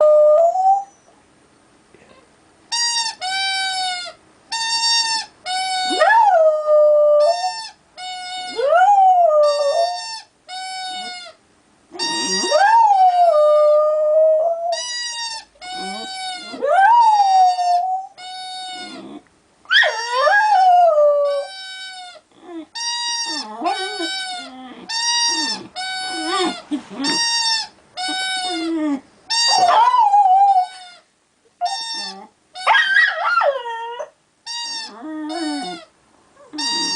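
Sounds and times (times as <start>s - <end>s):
dog howling and whining: 0.0s - 1.2s, 5.7s - 10.0s, 12.0s - 31.0s, 31.6s - 36.9s.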